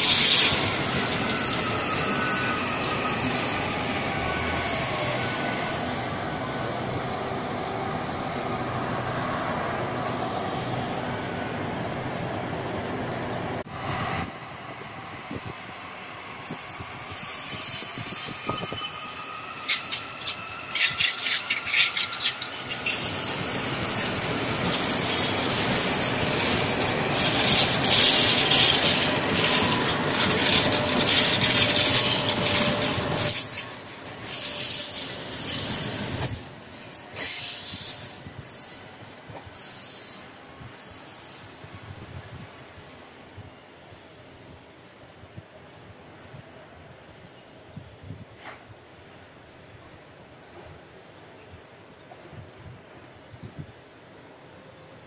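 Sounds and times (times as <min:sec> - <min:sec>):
electric train whine: 0:00.0 - 0:44.5
train wheels on rails: 0:00.0 - 0:44.6, 0:48.2 - 0:49.2.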